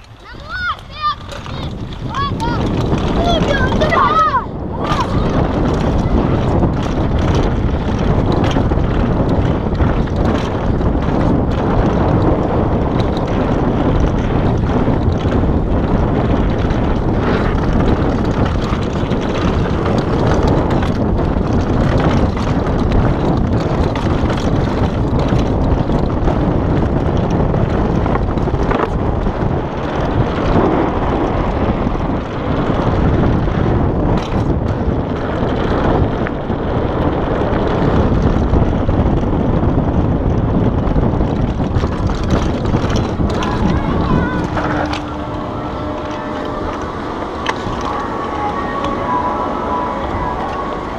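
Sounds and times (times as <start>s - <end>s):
bike rattling over dirt trail: 0.0s - 50.9s
wind on microphone: 0.0s - 50.9s
bike knocking over bumps: 0.2s - 4.3s, 4.9s - 48.2s.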